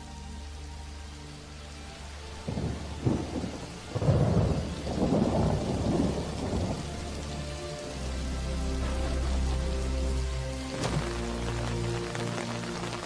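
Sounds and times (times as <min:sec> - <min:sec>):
thunder rumbling: 0:02.4 - 0:13.0.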